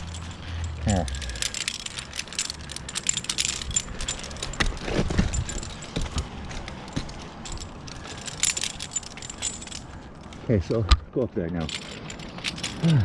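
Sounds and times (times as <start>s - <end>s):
metal carabiners jingling: 0.0s - 13.0s.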